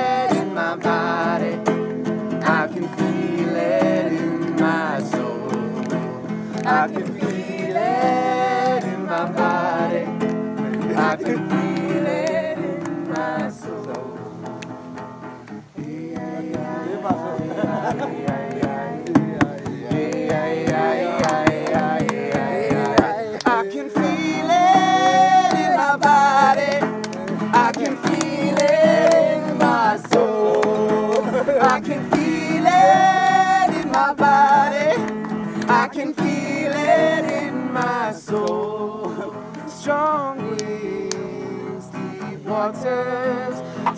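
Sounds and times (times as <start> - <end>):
acoustic guitar strumming: 0.0 - 43.9
hand claps: 0.1 - 41.3
person singing: 2.4 - 10.1, 10.8 - 14.5, 15.8 - 43.9.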